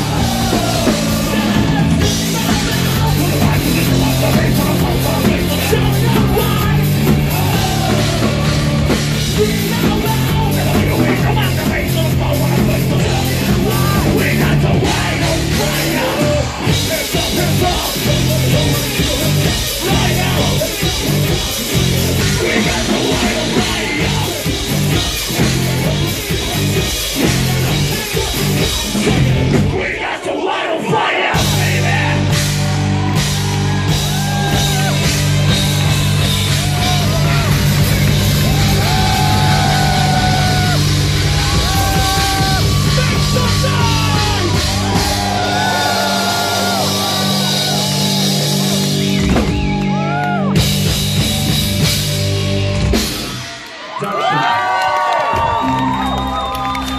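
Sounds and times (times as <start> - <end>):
shouted vocals: 0.0 - 21.0, 26.6 - 50.6, 53.8 - 56.9
distorted guitar: 0.0 - 29.8, 31.4 - 53.8
bass guitar: 0.0 - 30.0, 31.3 - 56.9
sung vocals: 0.0 - 49.2
drums: 0.0 - 56.9.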